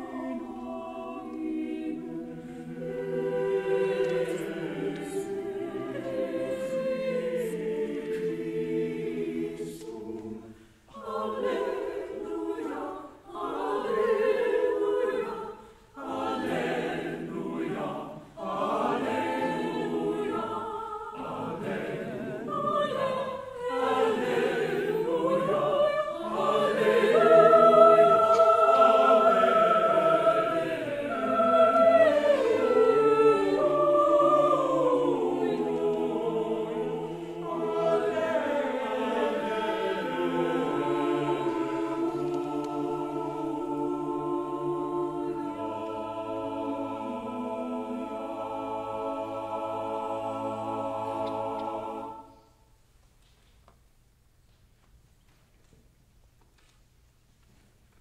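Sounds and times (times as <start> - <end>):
mixed choir singing: 0.0 - 52.6.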